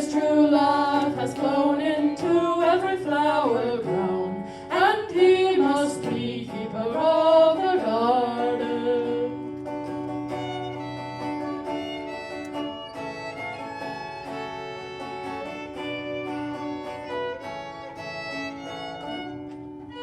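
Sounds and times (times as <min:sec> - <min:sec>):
fiddle melody: 0:00.0 - 0:20.0
plucked strings: 0:00.0 - 0:20.0.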